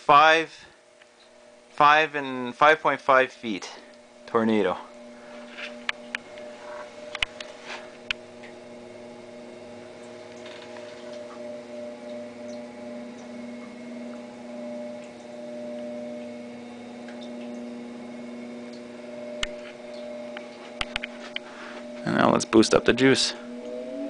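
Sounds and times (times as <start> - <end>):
fan and humidifier hum: 0.0 - 24.0.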